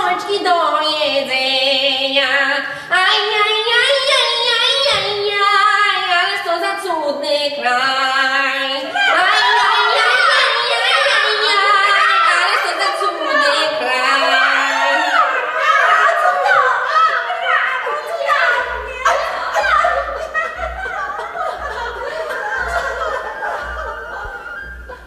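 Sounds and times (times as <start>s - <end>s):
a cappella singing voices: 0.0s - 25.0s.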